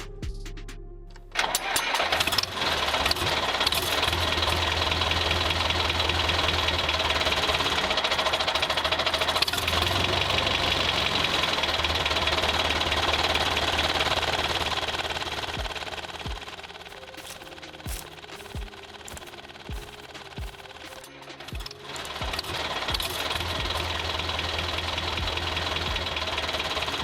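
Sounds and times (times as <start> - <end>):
engine running with rapid knocking: 1.4 - 27.0.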